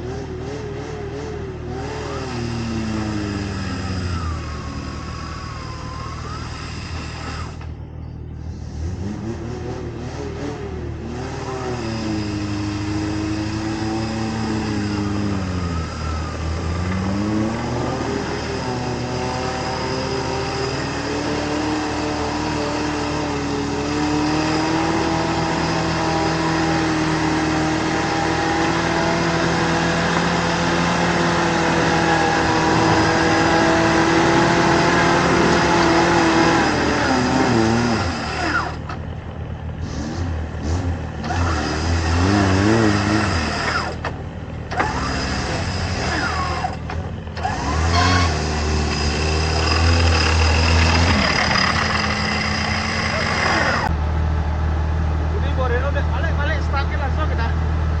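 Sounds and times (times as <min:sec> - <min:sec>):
engine running at high revs: 0:00.0 - 0:54.4.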